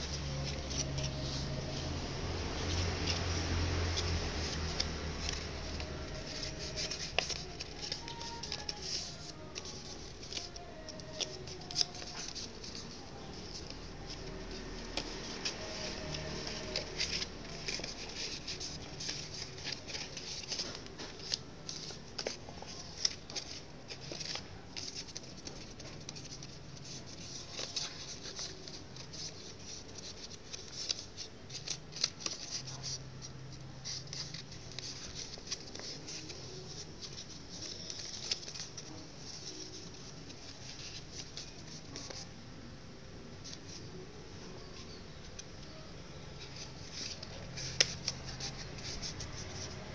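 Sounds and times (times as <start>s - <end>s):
paper being folded and creased: 0.0s - 42.4s, 43.3s - 49.9s.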